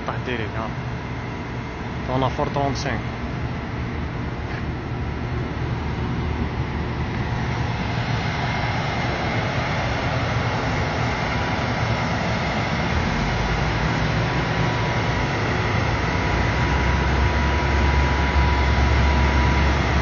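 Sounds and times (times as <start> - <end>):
heavy machinery rumble: 0.0 - 20.0
thin steady whine: 0.0 - 20.0.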